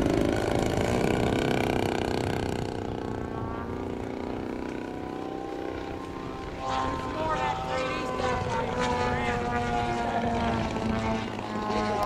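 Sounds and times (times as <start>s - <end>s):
model airplane engine and propeller: 0.0s - 12.0s.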